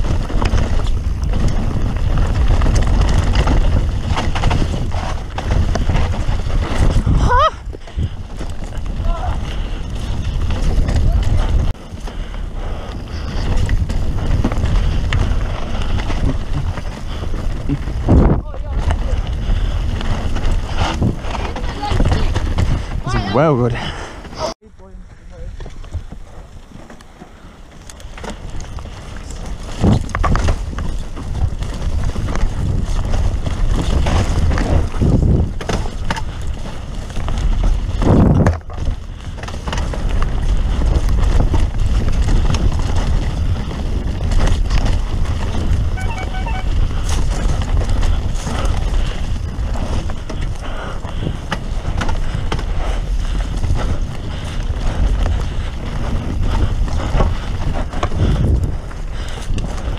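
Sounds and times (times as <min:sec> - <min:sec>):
bike knocking and rattling: 0:00.0 - 0:59.9
tyre noise on dirt: 0:00.0 - 0:59.9
wind rumble on microphone: 0:00.0 - 0:59.9.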